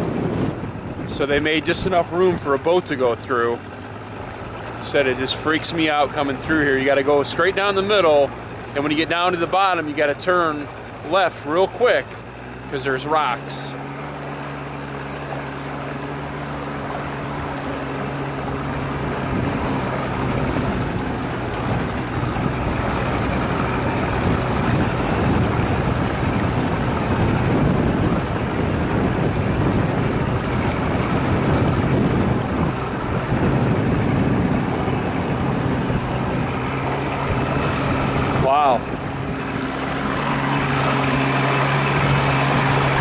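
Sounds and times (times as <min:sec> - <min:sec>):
wind buffeting microphone: 0:00.0 - 0:12.7, 0:13.4 - 0:43.0
boat motor running: 0:00.0 - 0:43.0
rushing water: 0:00.0 - 0:43.0.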